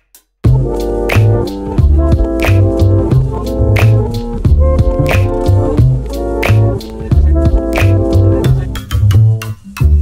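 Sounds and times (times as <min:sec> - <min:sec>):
drum hits: 0:00.5 - 0:09.1
pulsing bass line: 0:00.5 - 0:10.0
synthesizer chords: 0:00.5 - 0:10.0.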